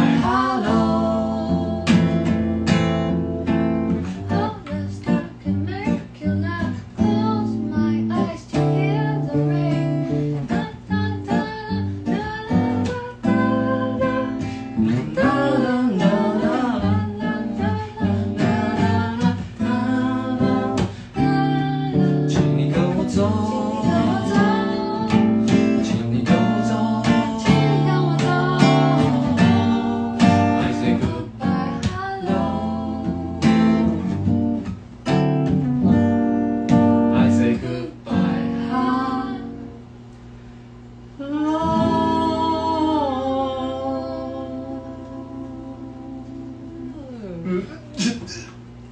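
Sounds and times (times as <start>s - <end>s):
voices singing: 0.0s - 2.7s, 3.9s - 34.3s, 36.7s - 39.9s, 41.2s - 48.6s
acoustic guitar strumming: 0.0s - 39.8s, 41.6s - 43.0s.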